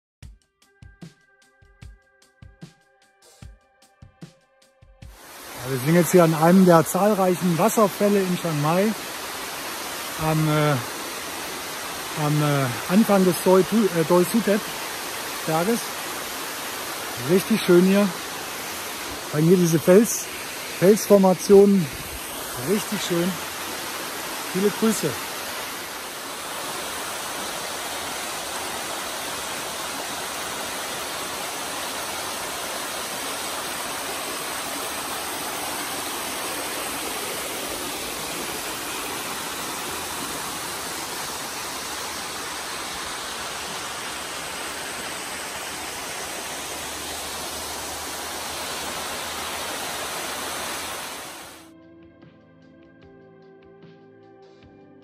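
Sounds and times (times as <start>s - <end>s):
waterfall rushing over rocks: 5.1s - 51.7s.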